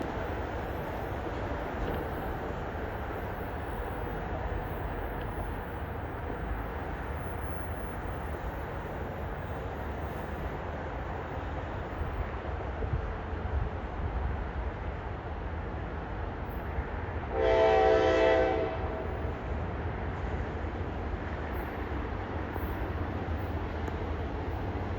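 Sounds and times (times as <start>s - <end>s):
train running on track: 0.0s - 24.9s.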